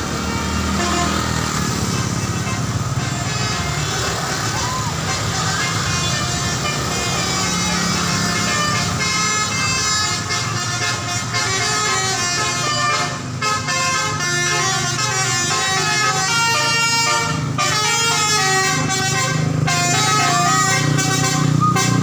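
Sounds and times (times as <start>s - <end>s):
multi-tone bus horn tune: 0.0s - 22.0s.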